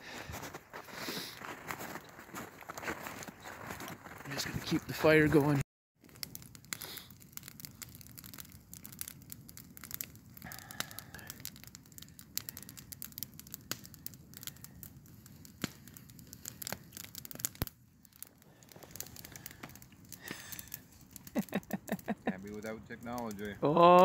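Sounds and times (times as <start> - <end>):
campfire crackling: 0.0 - 24.0
fire pops and snaps: 0.1 - 24.0
low fire hiss: 4.3 - 24.0.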